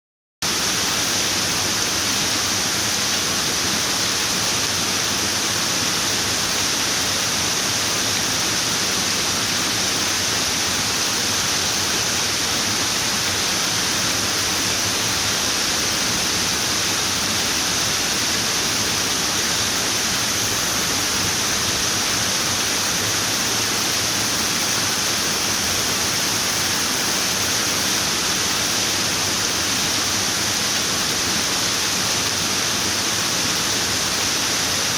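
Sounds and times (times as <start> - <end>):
running water rushing: 0.5 - 34.9.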